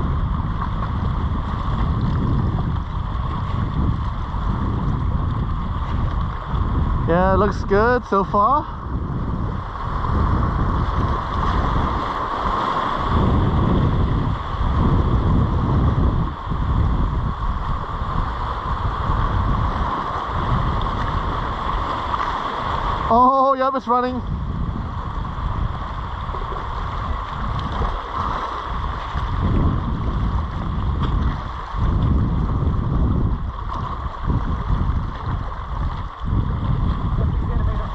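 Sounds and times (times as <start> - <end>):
sea washing on rocks: 0.0 - 37.9
wind buffeting microphone: 0.0 - 37.9.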